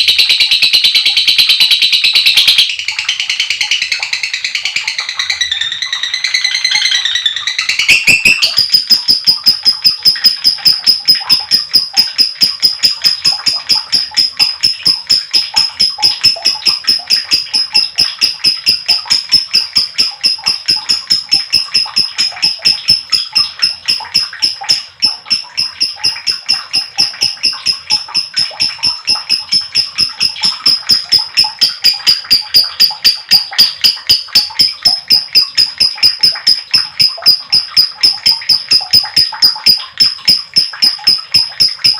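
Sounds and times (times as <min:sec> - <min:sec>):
lovebird high-pitched chatter: 0:00.0 - 0:41.9.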